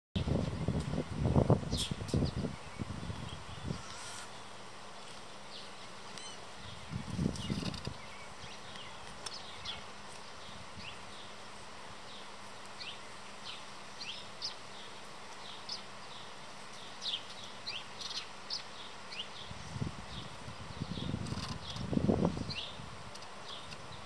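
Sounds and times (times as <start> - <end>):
songbirds chip notes: 0.2 - 4.6, 5.2 - 24.0
faint hiss: 0.2 - 24.0.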